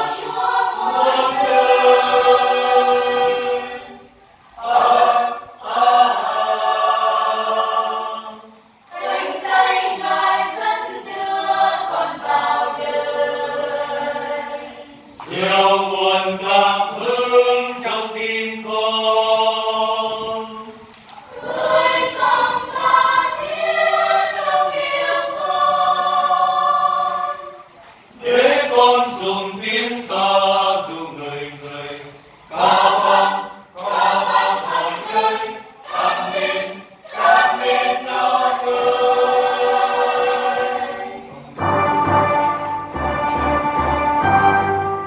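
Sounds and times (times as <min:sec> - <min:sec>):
mixed choir singing a hymn: 0:00.0 - 0:45.0.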